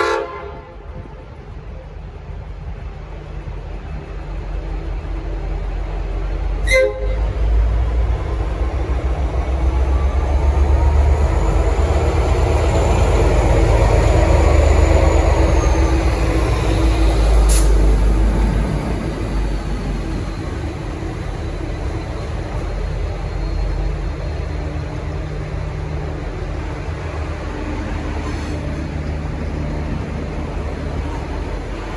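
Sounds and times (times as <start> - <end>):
diesel locomotive engine rumbling: 0.0 - 31.9.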